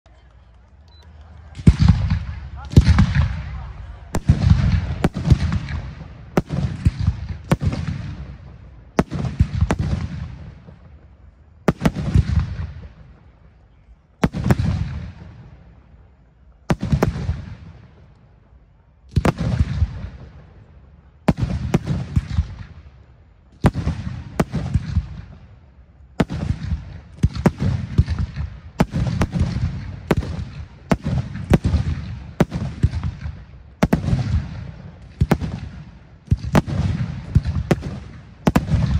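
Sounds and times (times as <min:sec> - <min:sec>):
rolling echo: 0:00.1 - 0:38.9.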